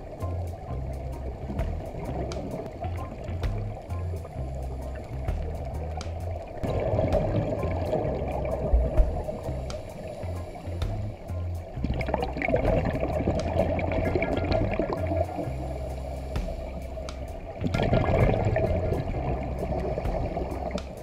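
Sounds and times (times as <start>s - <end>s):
underwater bubbles gurgling: 0.0s - 21.0s.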